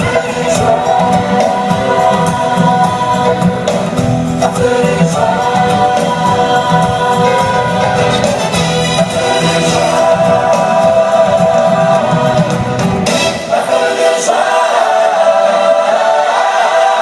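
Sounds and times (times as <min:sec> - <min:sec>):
band with steady beat: 0:00.0 - 0:13.8
choir singing gospel song: 0:00.0 - 0:17.0.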